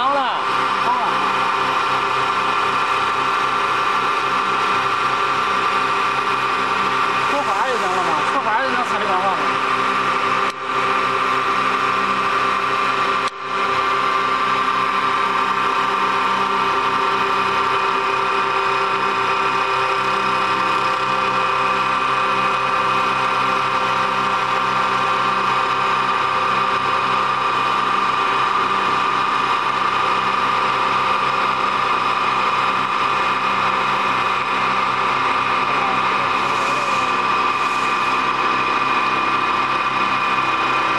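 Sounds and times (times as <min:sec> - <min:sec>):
wood-turning lathe whining: 0:00.0 - 0:40.9.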